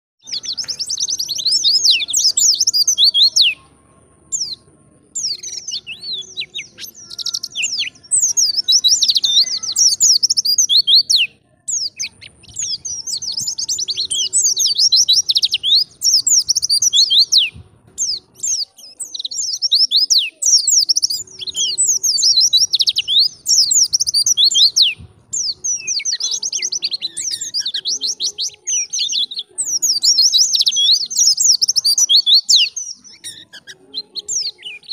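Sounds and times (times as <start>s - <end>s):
bird chattering and twittering: 0.2s - 34.9s.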